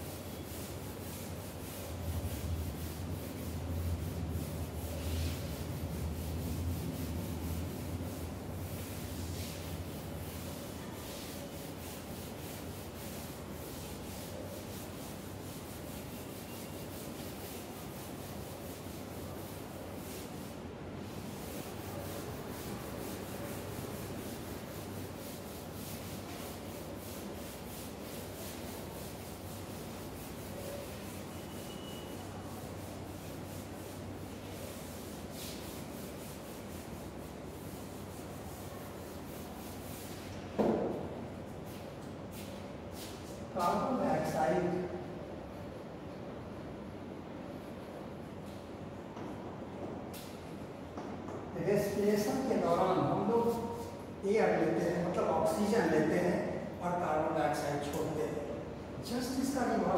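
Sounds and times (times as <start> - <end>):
duster rubbing on chalkboard: 0.0 - 44.8, 51.6 - 56.6.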